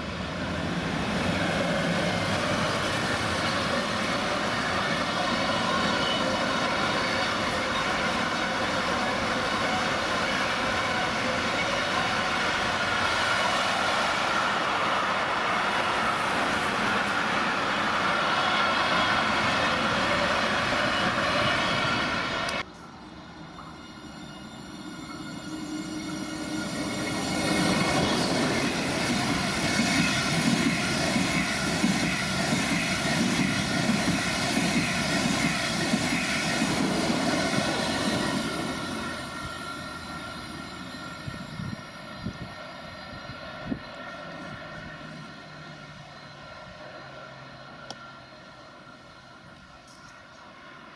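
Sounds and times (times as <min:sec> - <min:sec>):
freight train wheels rumbling: 0:00.0 - 0:50.9
high-speed train roaring past: 0:00.0 - 0:50.9.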